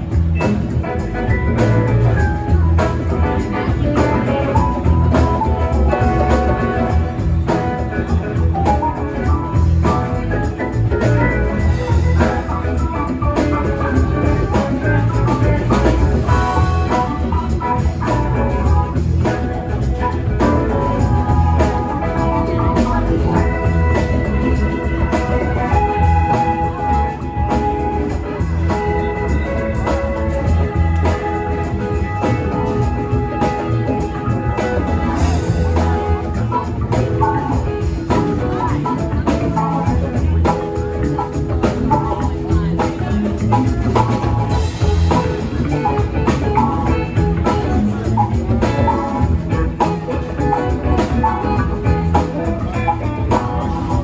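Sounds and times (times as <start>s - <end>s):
live band playing instrumental: 0.0s - 54.0s.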